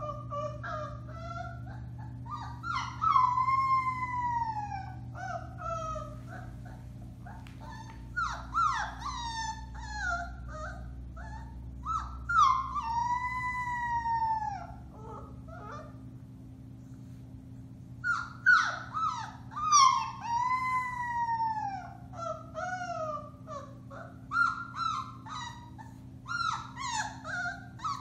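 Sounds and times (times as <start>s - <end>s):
puppy howling: 0.0s - 16.0s, 18.0s - 28.0s
puppy yipping: 0.0s - 16.0s, 18.0s - 28.0s.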